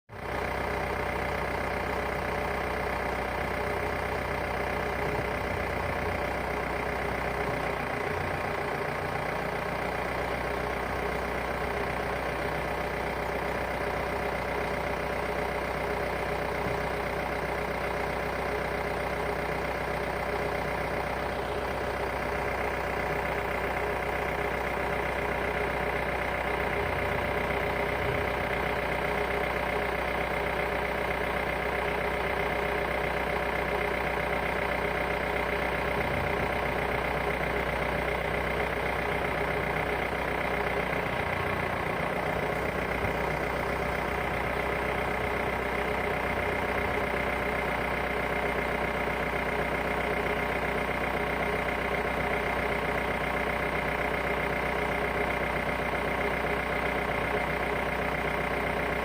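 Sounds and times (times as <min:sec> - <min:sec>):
motor running steadily: 0:00.1 - 0:59.0.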